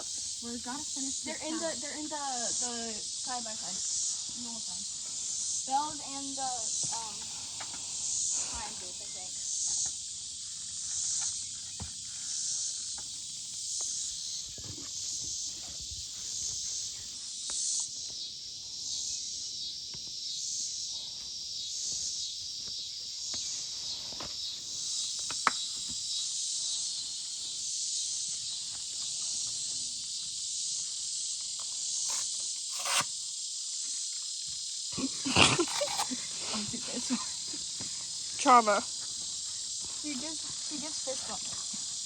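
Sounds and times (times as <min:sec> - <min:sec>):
insect chorus buzzing: 0:00.0 - 0:42.0.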